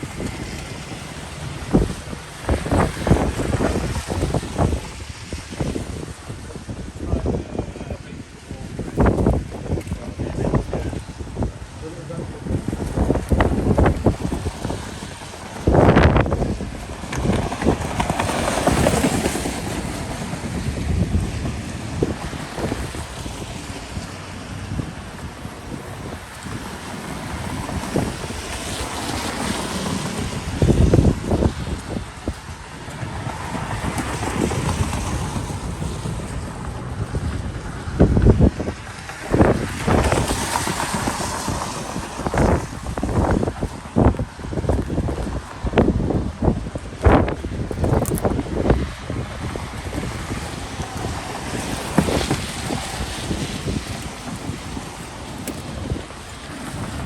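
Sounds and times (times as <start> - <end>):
passing traffic: 0.0 - 57.0
wind buffeting microphone: 0.0 - 57.0.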